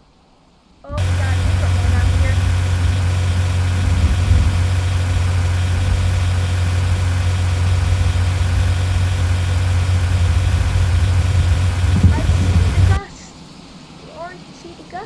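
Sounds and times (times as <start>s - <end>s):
vehicle engine running: 0.9s - 13.0s.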